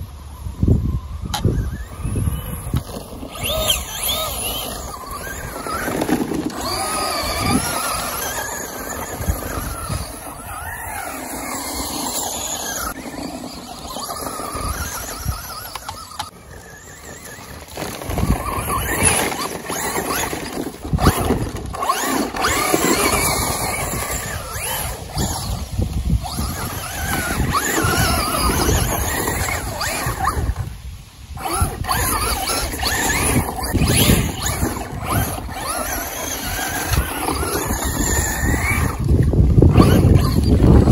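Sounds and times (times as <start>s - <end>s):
electric motor whining: 0.5s - 40.9s.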